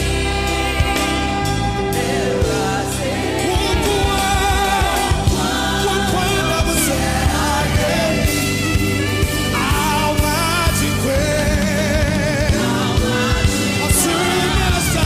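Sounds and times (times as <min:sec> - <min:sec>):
band playing: 0:00.0 - 0:15.0
singing voices: 0:00.0 - 0:15.0
steady drum beat: 0:00.0 - 0:15.0.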